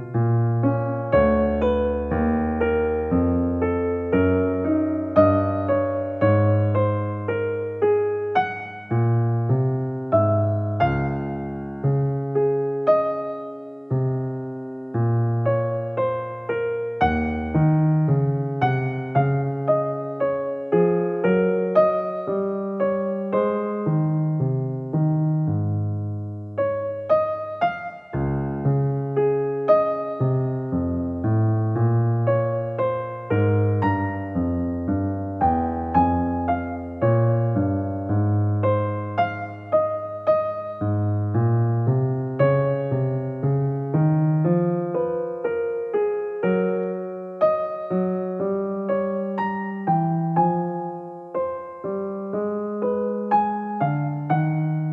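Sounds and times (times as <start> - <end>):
slow solo piano melody: 0.0 - 54.9.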